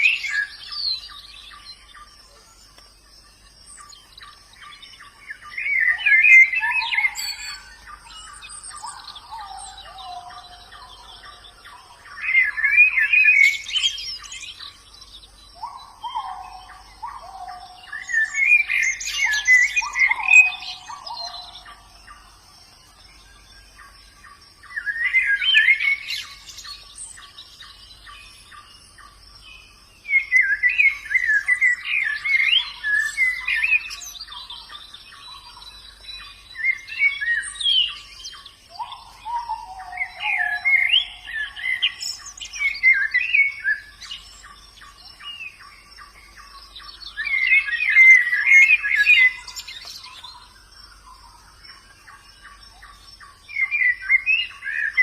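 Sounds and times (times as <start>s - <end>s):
bird twittering song: 0.0s - 55.0s.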